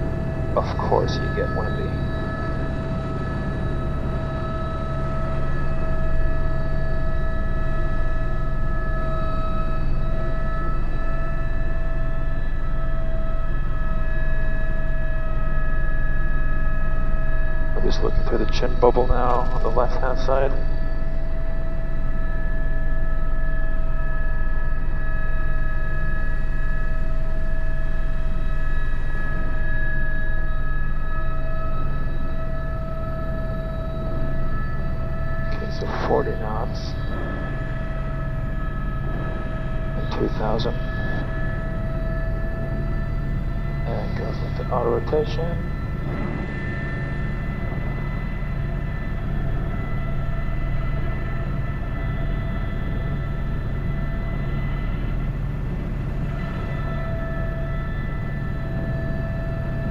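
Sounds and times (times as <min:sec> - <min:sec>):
helicopter rotor drone: 0:00.0 - 0:59.9
helicopter turbine whine: 0:00.0 - 0:59.9.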